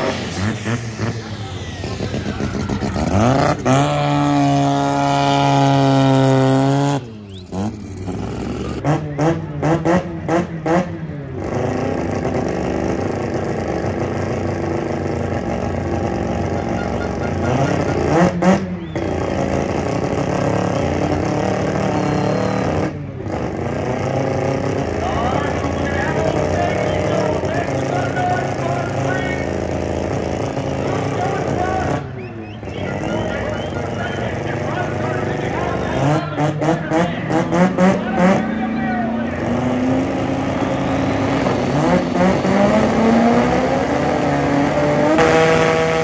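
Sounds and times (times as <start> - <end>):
engine throttle blips: 0.0 - 46.0
race car engine revving: 0.0 - 46.0.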